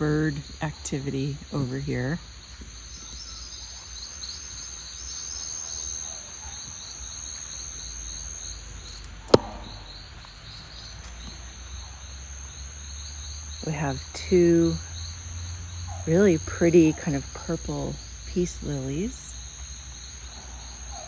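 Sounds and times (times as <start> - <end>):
crickets chirping: 0.0 - 21.0
steady high insect buzz: 0.0 - 21.0.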